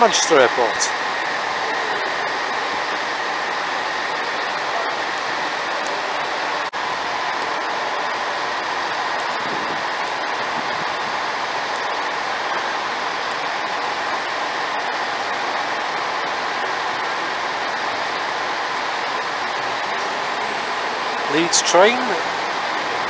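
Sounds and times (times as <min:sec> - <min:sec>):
faint train whine: 0:00.0 - 0:23.0
train running noise: 0:00.0 - 0:23.0.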